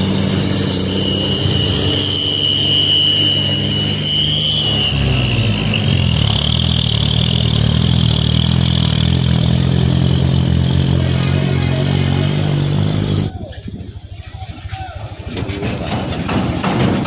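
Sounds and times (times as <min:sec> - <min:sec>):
high engine whine: 0:00.0 - 0:16.0
diesel truck engine droning: 0:00.0 - 0:17.0.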